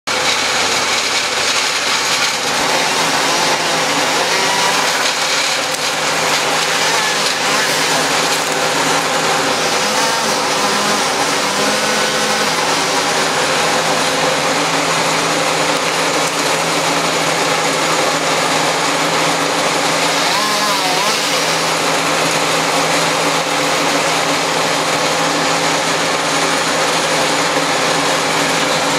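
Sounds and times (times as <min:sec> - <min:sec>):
wood chipper engine droning: 0:00.1 - 0:28.9.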